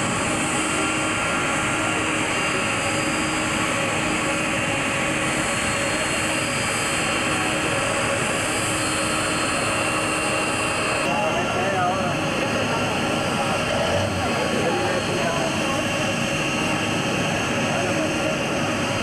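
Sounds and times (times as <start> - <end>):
jet engines on landing roll: 0.0 - 19.0.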